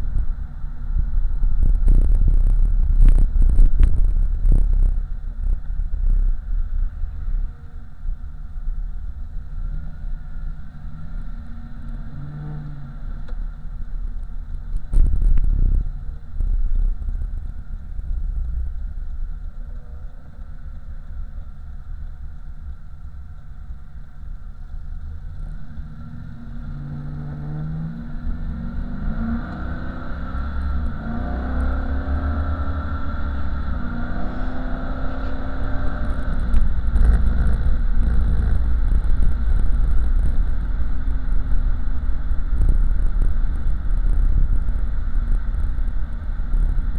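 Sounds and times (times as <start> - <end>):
car engine rumbling: 0.0 - 46.9.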